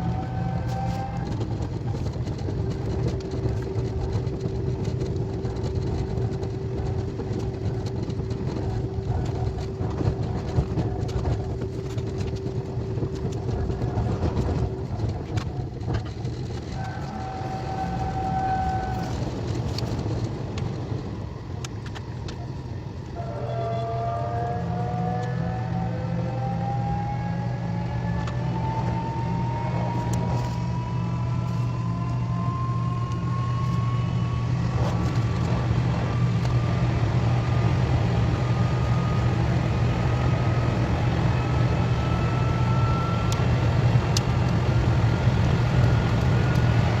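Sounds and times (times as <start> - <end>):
steady train whine: 0.0 - 47.0
train rumbling with clicks: 0.0 - 47.0.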